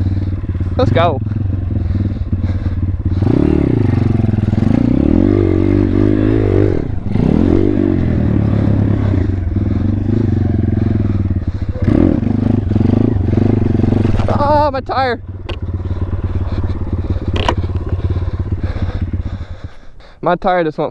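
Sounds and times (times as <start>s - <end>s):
motorcycle engine revving: 0.0s - 20.2s.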